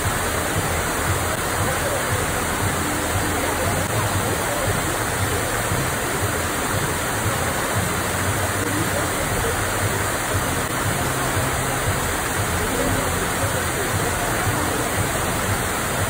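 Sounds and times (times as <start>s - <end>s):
waterfall pouring into pool: 0.0s - 16.0s.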